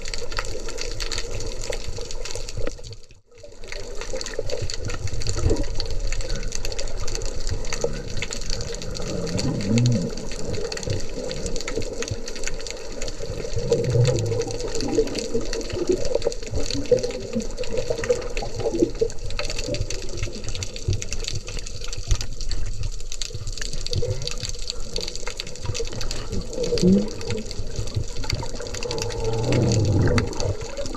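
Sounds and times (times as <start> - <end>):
underwater rush of moving water: 0.0 - 30.9.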